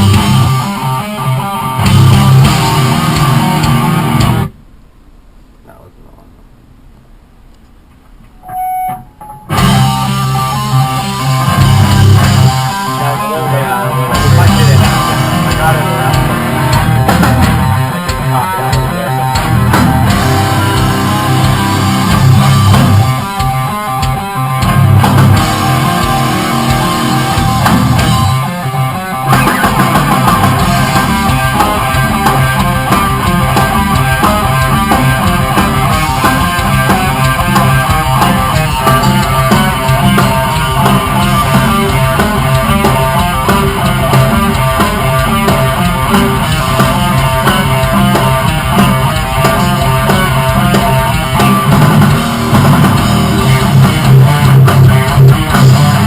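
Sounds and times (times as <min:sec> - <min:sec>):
rock band playing: 0:00.0 - 0:04.5, 0:08.5 - 0:56.0
electric guitar: 0:00.0 - 0:04.6, 0:08.3 - 0:56.0.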